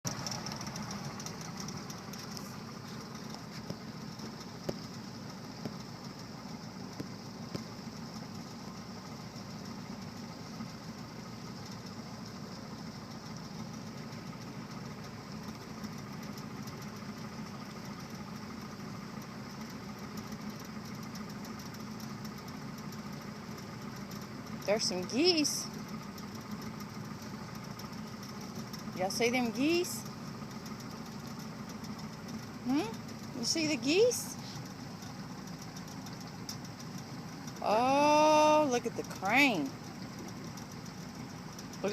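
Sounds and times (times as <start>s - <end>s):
boat motor running: 0.0s - 41.9s.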